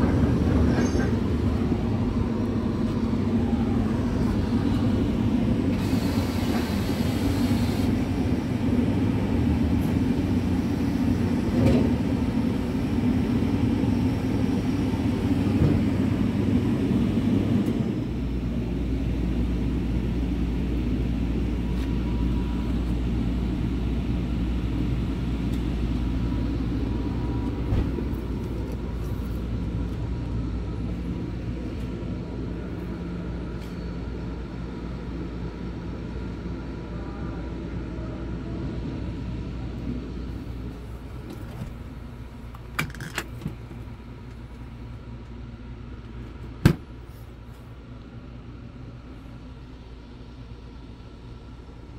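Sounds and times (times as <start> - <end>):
diesel engine idling: 1.2 - 51.9.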